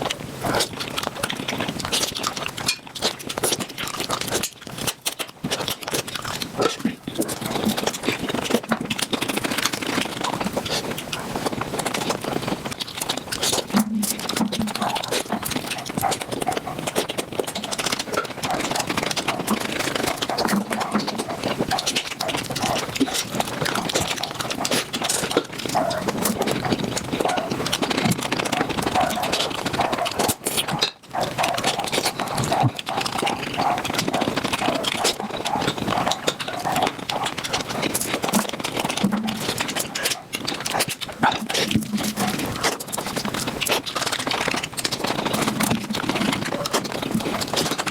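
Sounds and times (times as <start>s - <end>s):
sped-up chewing and slurping: 0.0s - 47.9s.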